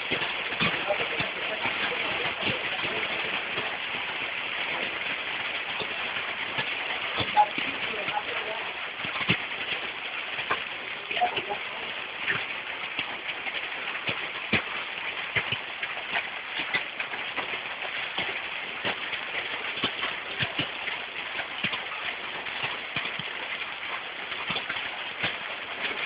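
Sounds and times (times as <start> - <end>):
hailstones knocking on hard surfaces: 0.0 - 26.0
rain hissing: 0.0 - 26.0.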